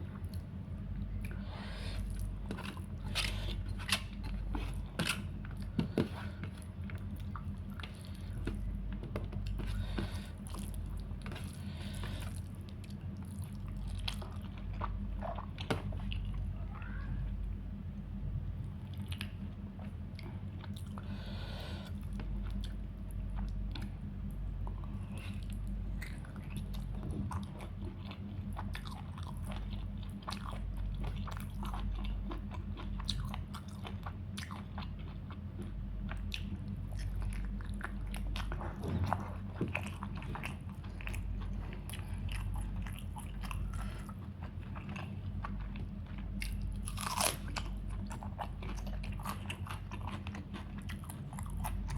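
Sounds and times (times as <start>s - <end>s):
person chewing and crunching: 0.0s - 16.6s, 18.7s - 51.9s
steady low hum: 0.0s - 51.9s.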